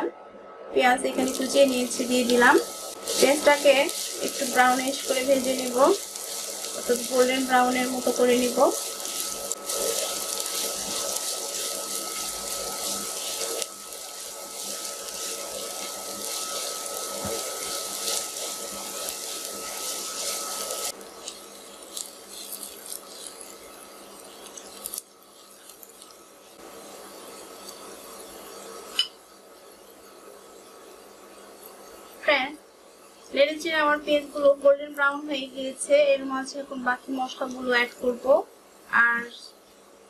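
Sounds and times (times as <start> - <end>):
onions sizzling in hot oil: 0.8 - 40.0.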